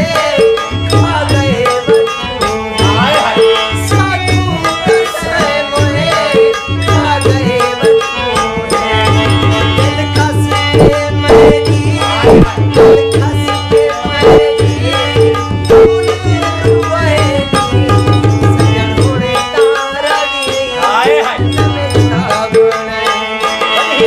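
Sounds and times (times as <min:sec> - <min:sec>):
harmonium chords: 0:00.0 - 0:24.0
man singing: 0:00.0 - 0:24.0
tabla playing: 0:00.0 - 0:24.0.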